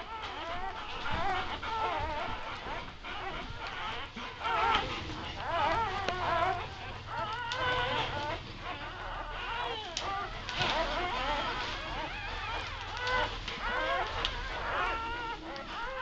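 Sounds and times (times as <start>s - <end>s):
newborn puppies squeaking: 0.0s - 16.0s.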